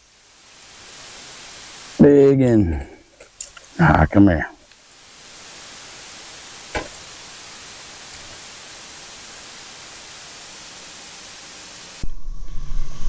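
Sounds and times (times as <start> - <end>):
steady hiss: 0.0 - 12.1.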